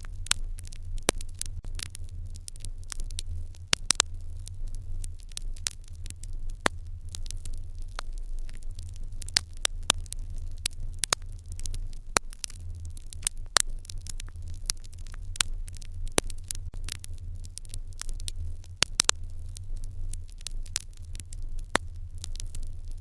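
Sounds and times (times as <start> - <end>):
low steady hum: 0.0 - 23.0
wood fire crackling: 0.0 - 23.0.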